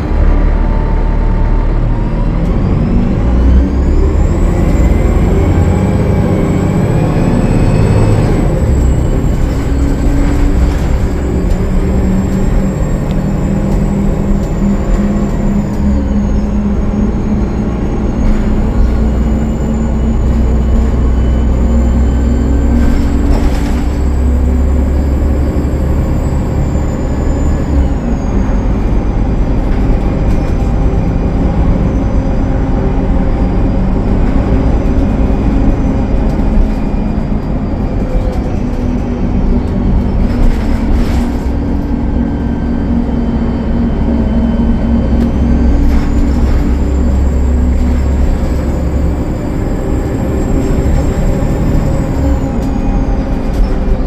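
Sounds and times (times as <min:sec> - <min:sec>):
bus diesel engine under load: 0:00.0 - 0:54.0
turbocharger whine: 0:00.0 - 0:54.0.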